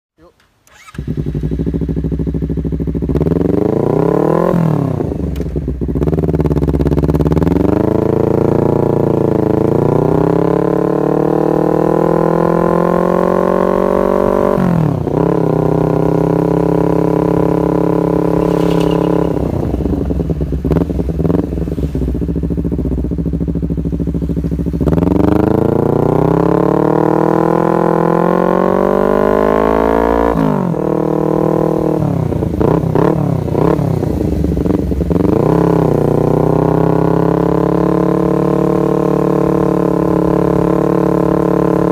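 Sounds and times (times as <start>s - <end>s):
motorcycle engine revving: 0.4s - 41.9s.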